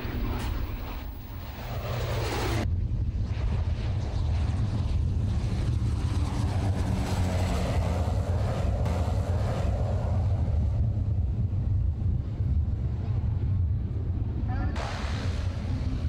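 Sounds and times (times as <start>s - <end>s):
turboprop aircraft flying past: 0.0s - 16.0s
wind rumble on microphone: 0.0s - 16.0s.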